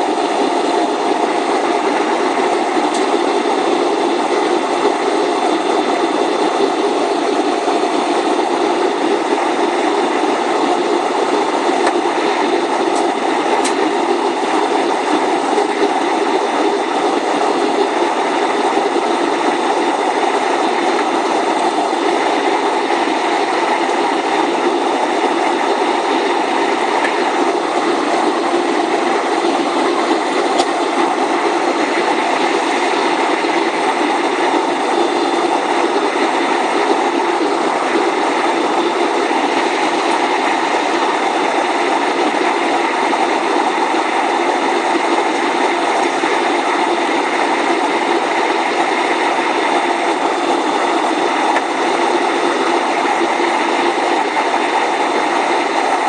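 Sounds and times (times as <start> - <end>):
airliner cabin engine rush: 0.0 - 56.0.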